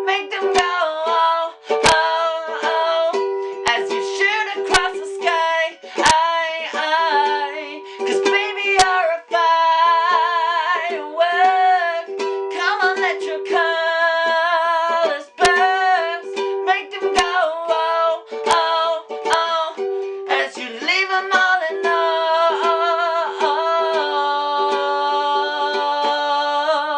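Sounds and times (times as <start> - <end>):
person singing: 0.0 - 26.9
ukulele strumming chords: 0.0 - 26.9.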